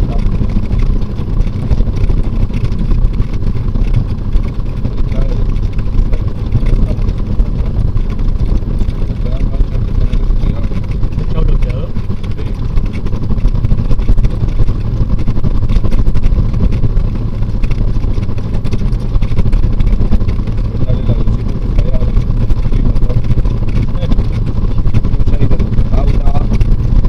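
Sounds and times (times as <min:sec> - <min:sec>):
propeller aircraft engine rumbling: 0:00.0 - 0:27.0.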